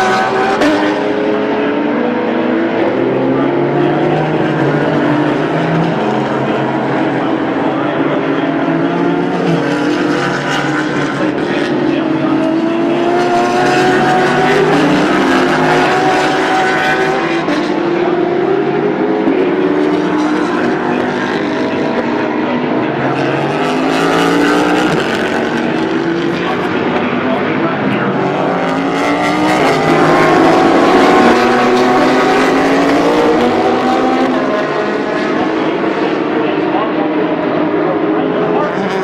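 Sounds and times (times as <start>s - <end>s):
race car engines: 0.0s - 39.0s.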